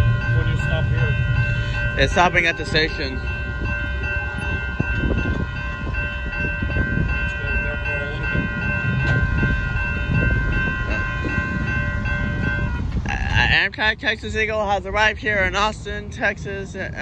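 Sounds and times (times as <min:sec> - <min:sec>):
low train rumble: 0:00.0 - 0:17.0
railroad crossing bell ringing: 0:00.0 - 0:17.0.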